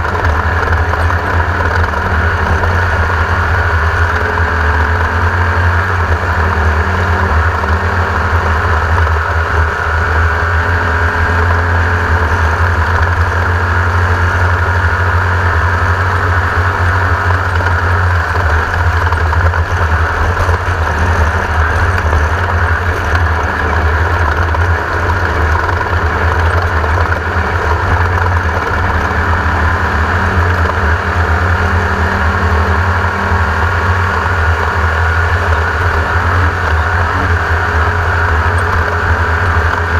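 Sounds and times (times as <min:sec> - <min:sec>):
race car engine running loudly: 0:00.0 - 0:39.9.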